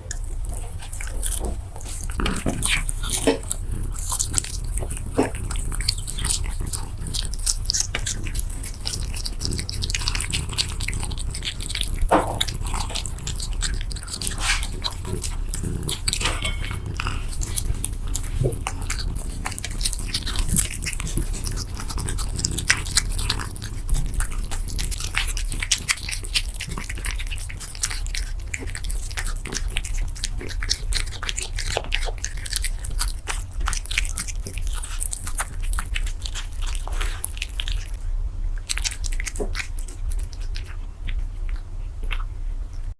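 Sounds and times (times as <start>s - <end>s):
cat crunching food: 0.0s - 42.9s
steady low hum: 0.0s - 42.9s.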